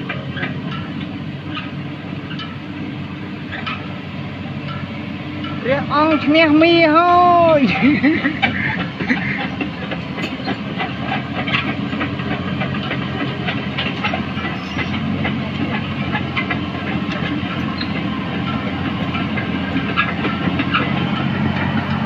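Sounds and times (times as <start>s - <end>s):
excavator diesel engine running: 0.0s - 22.0s
metallic clicks and clanks: 0.1s - 2.6s, 3.5s - 3.9s, 4.6s - 6.2s, 7.7s - 22.0s.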